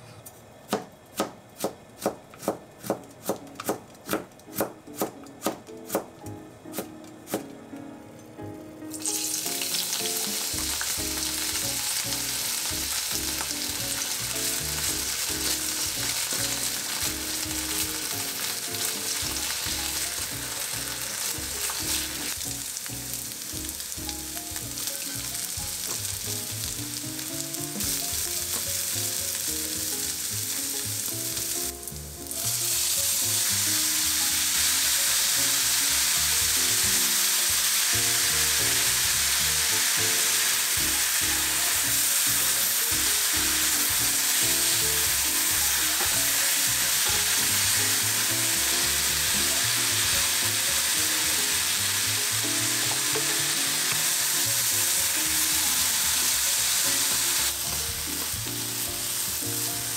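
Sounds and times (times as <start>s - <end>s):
vegetables sizzling in hot oil: 8.9s - 59.9s.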